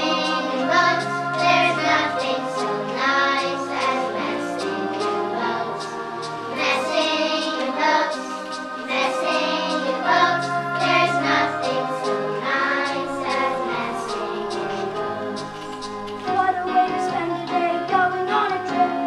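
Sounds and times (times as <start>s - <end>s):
children singing in chorus: 0.0s - 19.0s.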